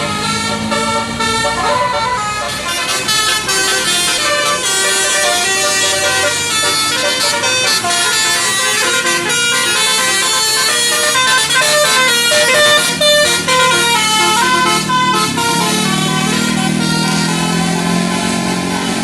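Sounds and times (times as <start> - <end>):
musical air horn tune: 0.0 - 19.0.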